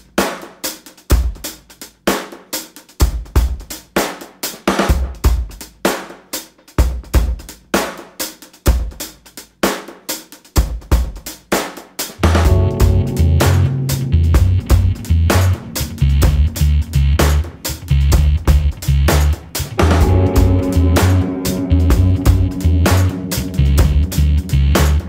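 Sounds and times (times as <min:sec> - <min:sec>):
drum kit beat: 0:00.0 - 0:25.0.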